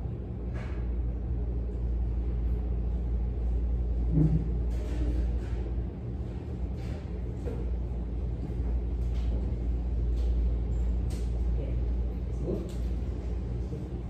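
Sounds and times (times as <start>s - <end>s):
low rumbling hum: 0.0s - 14.0s.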